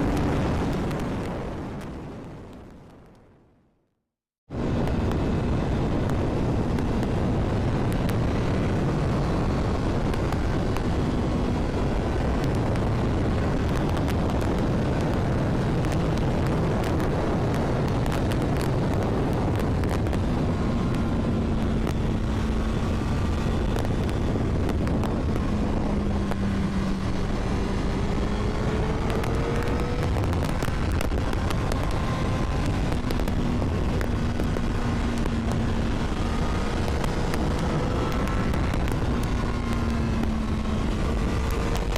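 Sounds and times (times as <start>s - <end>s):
wind rushing on microphone: 0.0s - 3.6s, 4.5s - 41.9s
motorcycle engine: 4.7s - 41.9s.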